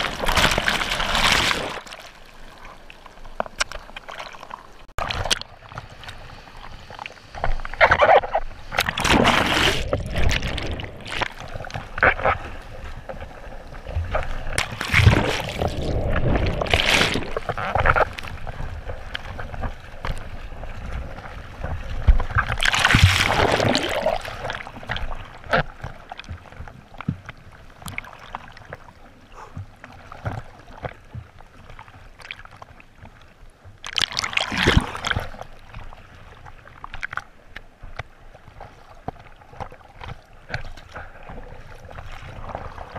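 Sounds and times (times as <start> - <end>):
seawater splashing and gurgling: 0.0 - 42.9.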